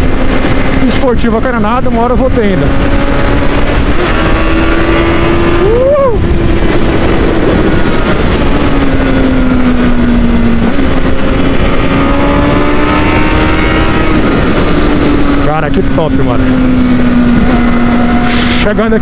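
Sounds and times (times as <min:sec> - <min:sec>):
heavy wind rush: 0:00.0 - 0:19.0
motorcycle engine running at speed: 0:00.0 - 0:19.0.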